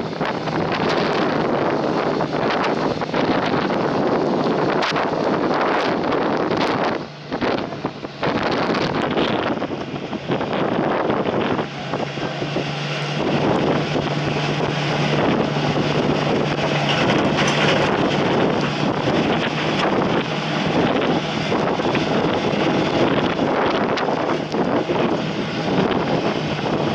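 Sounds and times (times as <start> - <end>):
low machine hum: 0.0 - 26.9
wind buffeting microphone: 0.0 - 26.9.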